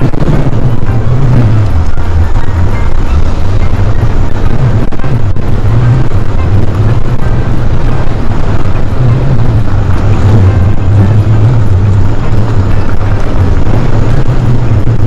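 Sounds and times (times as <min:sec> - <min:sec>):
wind and road rumble: 0:00.0 - 0:15.0.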